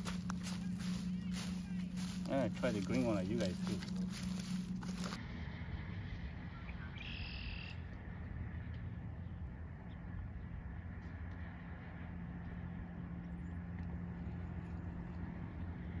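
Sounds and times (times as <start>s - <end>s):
low outdoor rumble: 0.0s - 16.0s
low steady hum: 0.0s - 16.0s.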